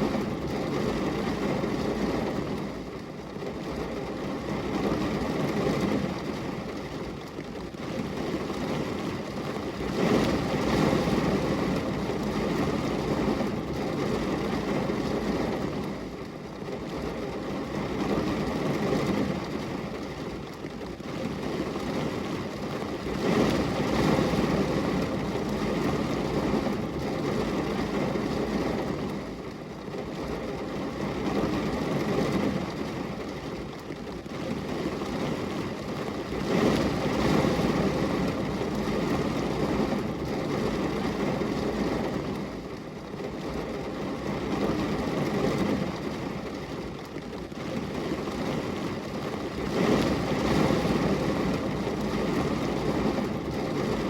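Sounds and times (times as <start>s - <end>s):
rain pattering on glass window: 0.0s - 54.0s.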